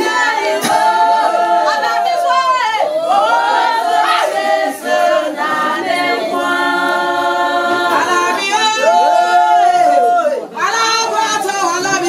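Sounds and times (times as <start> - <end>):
voices singing without instruments: 0.0 - 12.0.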